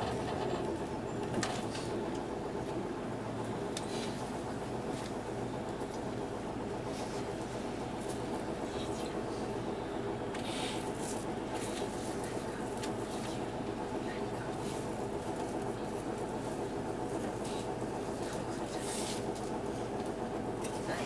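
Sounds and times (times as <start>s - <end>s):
bus diesel engine idling: 0.0s - 21.0s.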